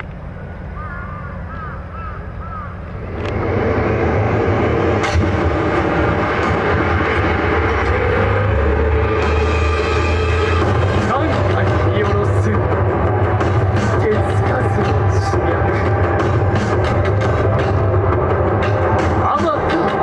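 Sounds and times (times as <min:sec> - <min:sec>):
loud deep rumbling: 0:00.0 - 0:20.0.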